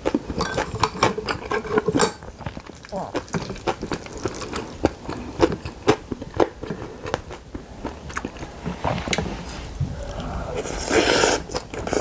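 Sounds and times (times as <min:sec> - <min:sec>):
close chewing with mouth clicks: 0:00.0 - 0:09.3, 0:10.1 - 0:12.0.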